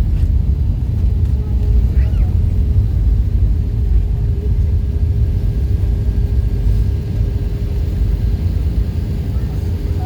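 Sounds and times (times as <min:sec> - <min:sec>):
airliner low rumble: 0:00.0 - 0:10.0.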